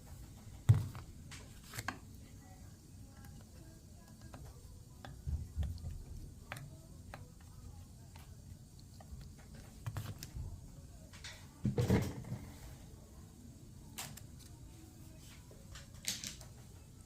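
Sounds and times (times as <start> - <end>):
faint background voices: 0.0 - 17.0.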